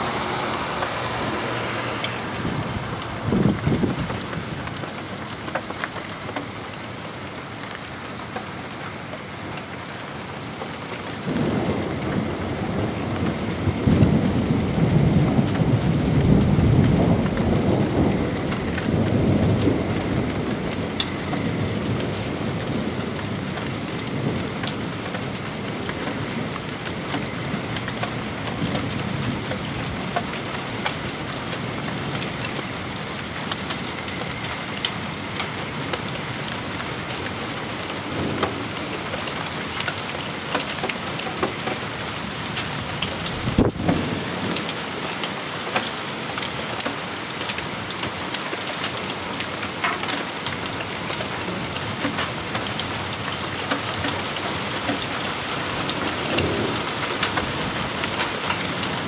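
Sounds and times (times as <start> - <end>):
thunder rumble: 0.0 - 5.5, 11.0 - 45.2, 50.5 - 59.0
steady rain: 0.0 - 59.0.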